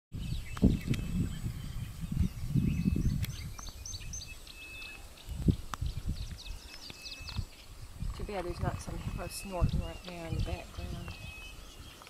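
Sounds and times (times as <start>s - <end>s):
wind buffeting microphone: 0.1s - 12.0s
birds chirping: 0.2s - 12.0s.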